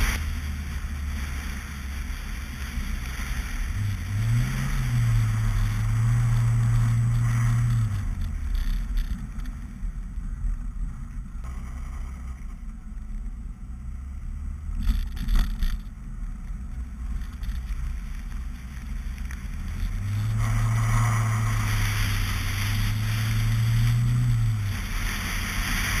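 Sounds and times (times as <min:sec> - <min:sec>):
car engine droning under throttle: 0:00.0 - 0:26.0.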